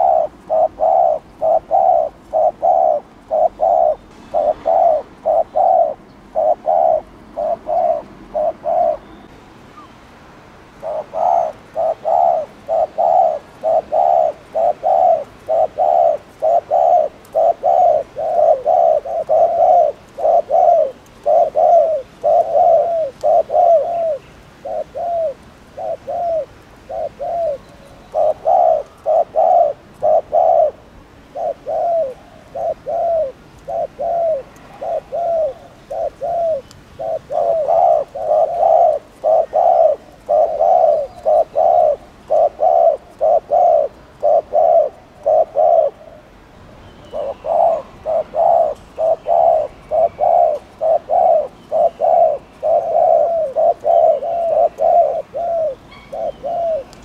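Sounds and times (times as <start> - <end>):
dove cooing: 0.0 - 10.0, 10.7 - 46.4, 47.0 - 57.0.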